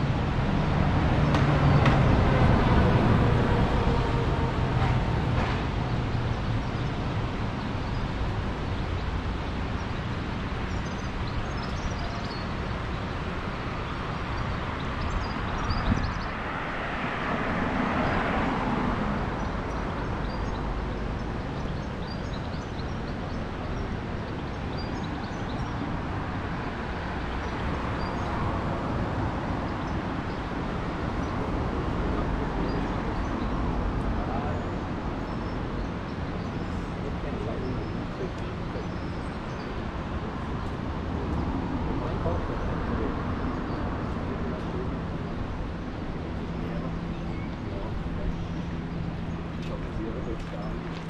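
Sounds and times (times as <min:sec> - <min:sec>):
background traffic: 0:00.0 - 0:51.0.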